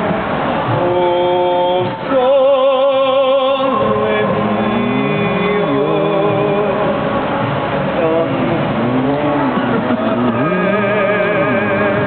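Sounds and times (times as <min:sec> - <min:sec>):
man singing operatically: 0:00.0 - 0:07.2, 0:08.0 - 0:12.0.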